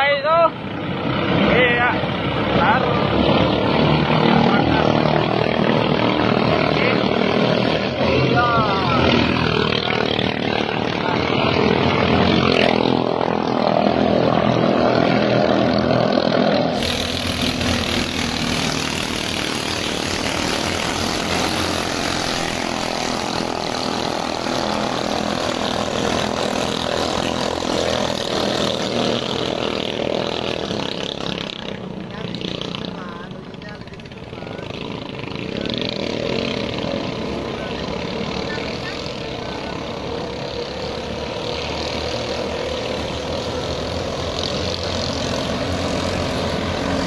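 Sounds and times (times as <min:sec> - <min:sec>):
boat engines buzzing drone: 0:00.0 - 0:47.0.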